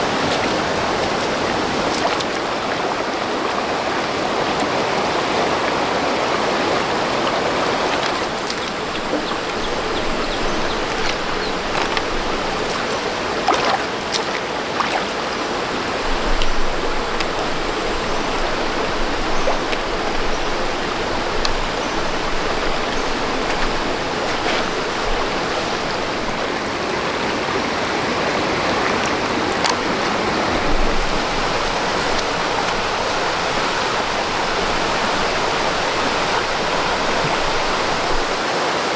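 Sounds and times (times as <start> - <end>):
running water rushing: 0.0 - 38.9
water splashes: 0.0 - 38.9.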